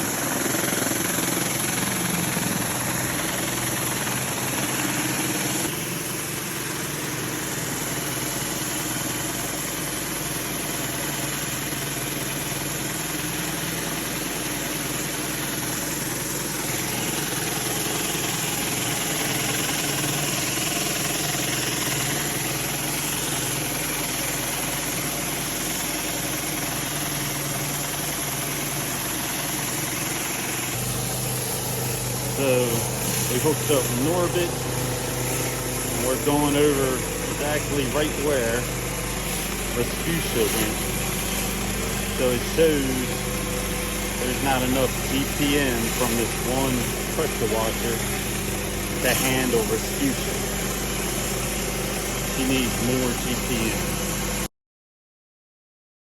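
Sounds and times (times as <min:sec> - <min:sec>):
pressure washer engine running: 0:00.0 - 0:54.5
water spraying hiss: 0:03.2 - 0:54.0.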